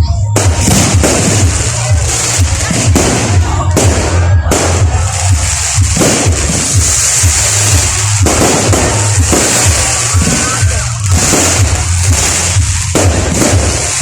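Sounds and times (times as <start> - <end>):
fireworks popping and crackling: 0.0 - 14.0
music with heavy bass beat: 0.0 - 14.0.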